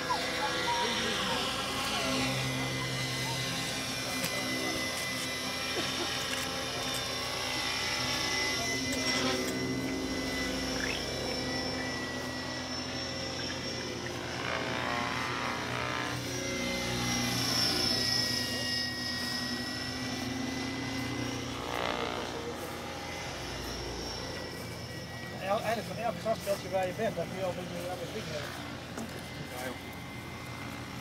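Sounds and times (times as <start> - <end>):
model aircraft motor whine: 0.0 - 31.0.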